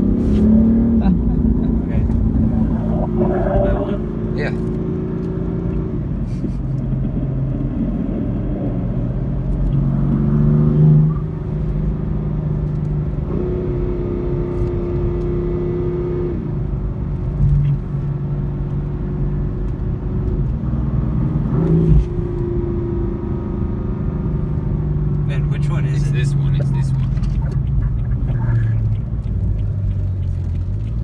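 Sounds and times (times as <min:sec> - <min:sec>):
car engine: 0:00.0 - 0:31.0
road noise: 0:00.0 - 0:31.0.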